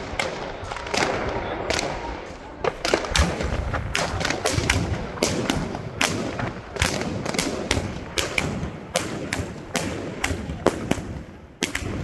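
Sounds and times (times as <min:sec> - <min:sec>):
firework cracks and bangs: 0:00.0 - 0:12.0.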